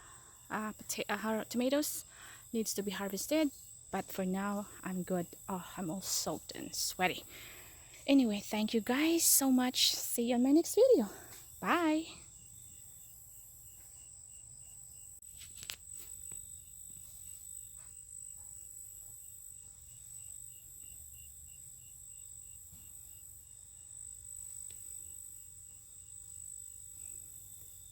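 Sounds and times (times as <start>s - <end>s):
cricket chirping: 0.0s - 27.9s
high-pitched insect buzz: 0.0s - 27.9s.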